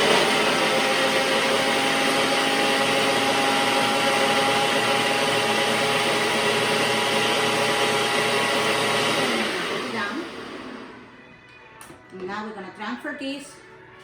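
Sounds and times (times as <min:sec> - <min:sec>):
blender running: 0:00.0 - 0:11.2.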